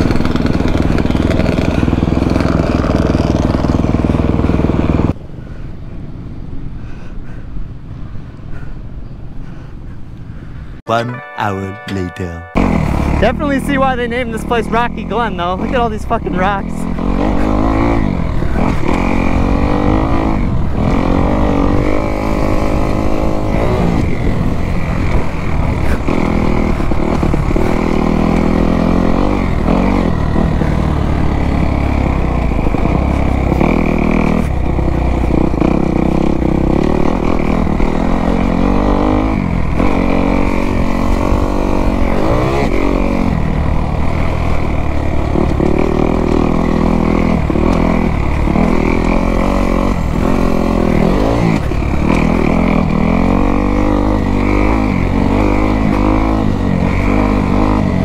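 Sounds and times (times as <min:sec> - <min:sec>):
dirt bike engine revving: 0:00.0 - 0:05.2, 0:12.6 - 0:58.0.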